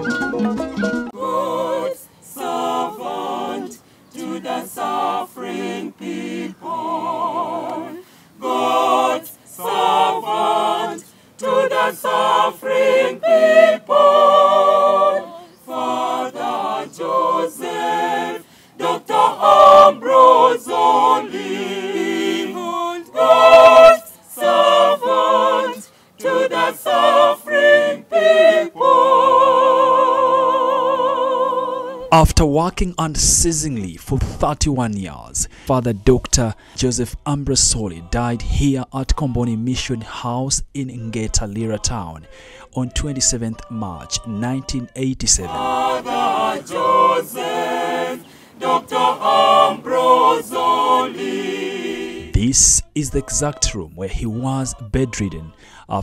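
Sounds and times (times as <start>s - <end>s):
choir singing unaccompanied: 0.0s - 32.2s, 35.8s - 39.9s, 41.1s - 56.0s.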